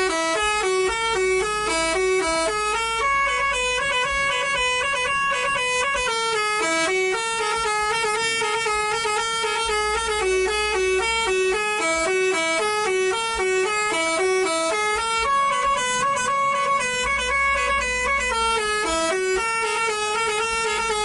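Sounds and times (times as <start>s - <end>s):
musical bus horn tune: 0.0s - 21.0s.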